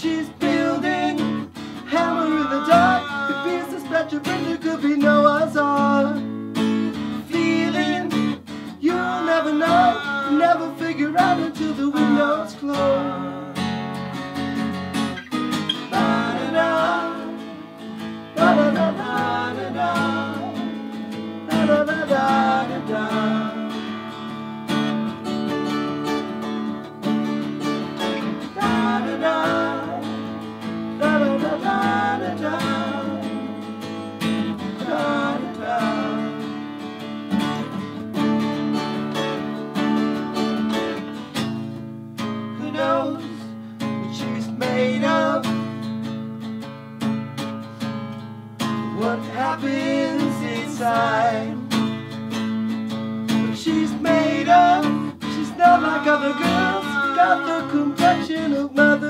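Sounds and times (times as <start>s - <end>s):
acoustic guitars playing: 0.0s - 59.0s.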